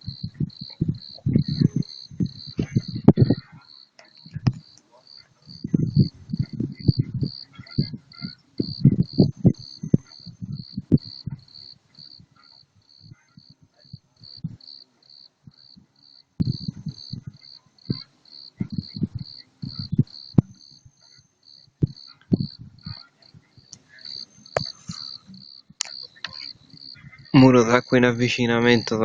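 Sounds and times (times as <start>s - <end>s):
wind buffeting microphone: 0.0s - 14.7s, 15.4s - 21.2s, 21.8s - 29.0s
cricket chirping: 0.0s - 29.0s.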